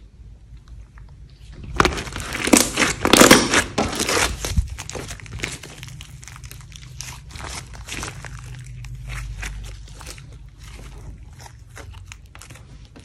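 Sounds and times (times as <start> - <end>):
slime squishing and crackling: 0.7 - 13.0.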